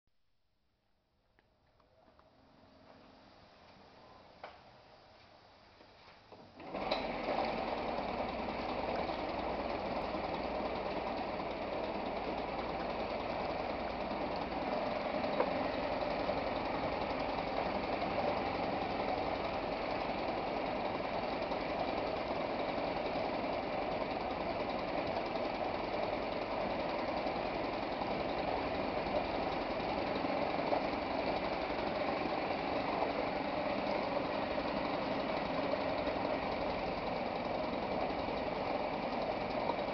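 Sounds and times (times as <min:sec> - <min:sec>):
outboard motor running: 0:06.6 - 0:39.9.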